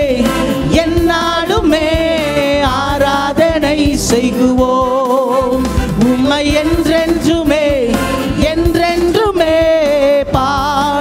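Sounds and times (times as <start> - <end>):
musical accompaniment: 0.0 - 11.0
person singing with vibrato: 0.0 - 11.0.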